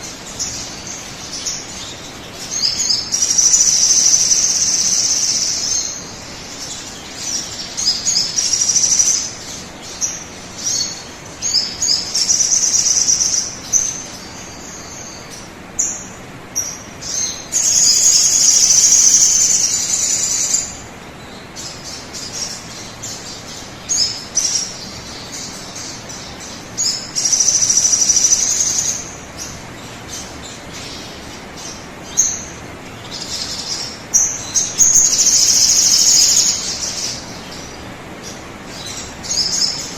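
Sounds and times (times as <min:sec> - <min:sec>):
bird chirping phrases: 0:00.0 - 0:39.9
steady hiss: 0:00.0 - 0:39.9.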